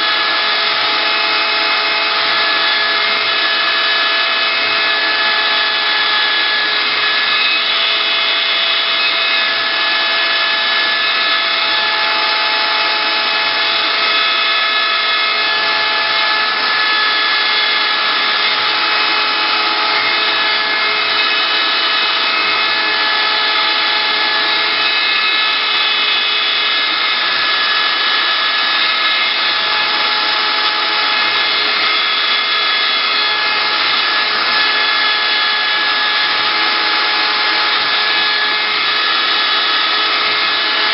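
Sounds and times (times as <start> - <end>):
router bit cutting wood: 0.0 - 40.9
router spindle whine: 0.0 - 40.9.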